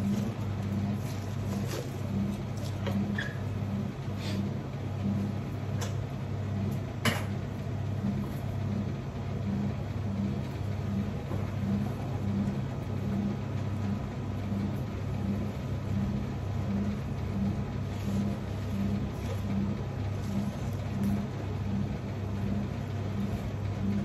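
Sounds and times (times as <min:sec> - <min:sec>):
low mechanical hum pulsing: 0:00.0 - 0:24.0.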